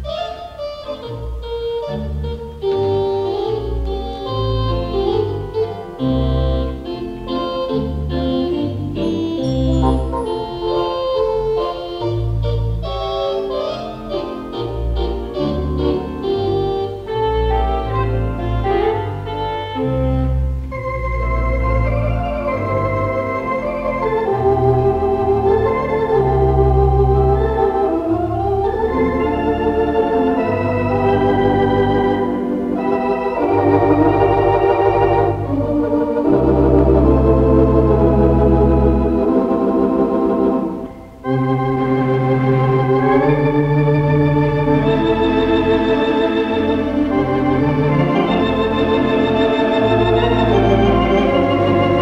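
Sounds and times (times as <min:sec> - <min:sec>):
theatre organ chords: 0:00.0 - 0:52.0.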